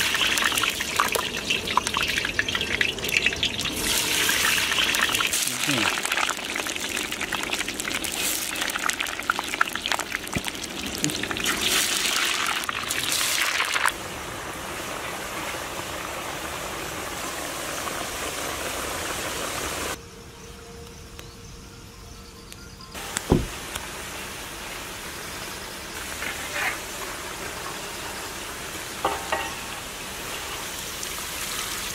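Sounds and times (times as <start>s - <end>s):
fries sizzling in hot oil: 0.0s - 20.0s, 23.0s - 31.9s.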